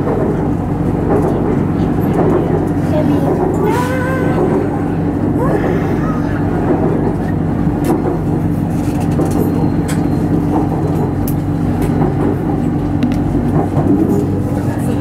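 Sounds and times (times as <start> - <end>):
train motors and wheels humming: 0.0 - 15.0.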